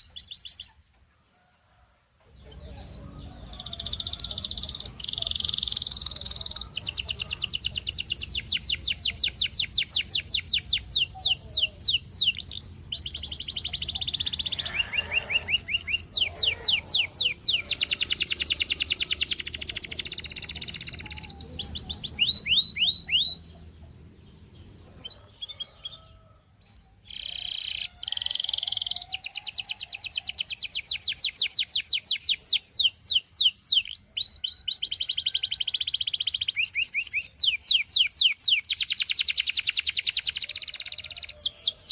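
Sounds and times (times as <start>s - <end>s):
canary singing trills: 0.0s - 0.8s, 2.3s - 41.9s.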